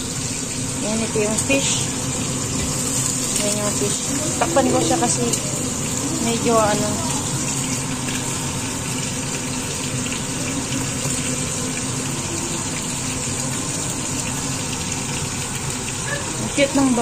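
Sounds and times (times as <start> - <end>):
fish sizzling in frying pan: 0.0 - 17.0.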